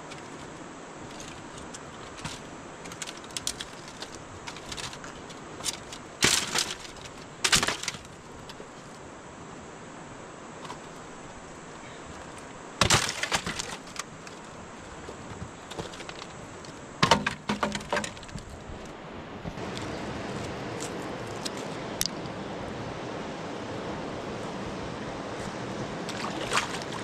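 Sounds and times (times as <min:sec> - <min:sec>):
steady hiss: 0:00.0 - 0:26.1.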